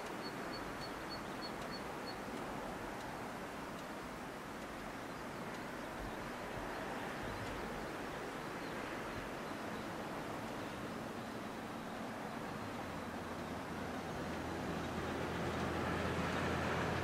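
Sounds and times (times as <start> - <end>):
low even rushing noise: 0.0 - 17.0.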